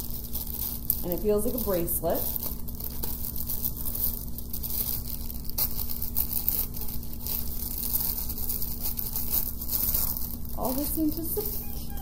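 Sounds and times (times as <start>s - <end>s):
low steady hum: 0.0s - 12.0s
paper wrapping crinkling: 0.0s - 12.0s
steady hiss: 0.0s - 12.0s.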